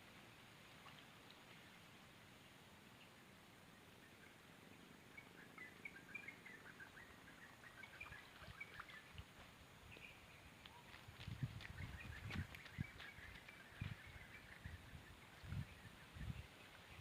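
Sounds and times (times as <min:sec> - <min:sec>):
faint bird chirps: 0:02.4 - 0:17.0.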